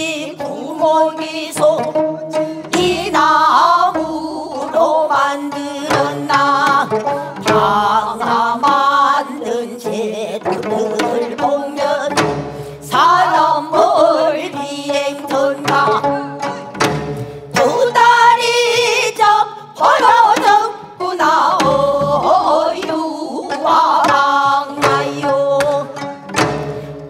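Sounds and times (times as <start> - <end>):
traditional singing voice: 0.0 - 16.8, 17.5 - 26.4
instrumental accompaniment: 0.0 - 27.0.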